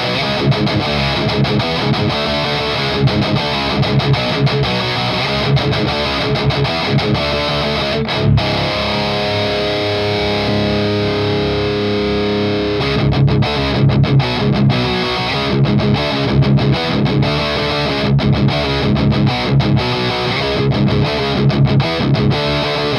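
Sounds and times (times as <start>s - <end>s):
distorted electric guitar chord ringing: 0.0s - 22.9s
palm-muted guitar riff chugging: 0.0s - 22.9s.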